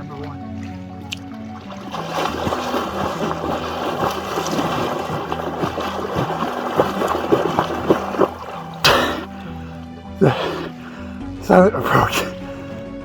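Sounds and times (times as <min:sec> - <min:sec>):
water splashing and sloshing: 0:00.0 - 0:11.2
background music with bass: 0:00.0 - 0:13.0.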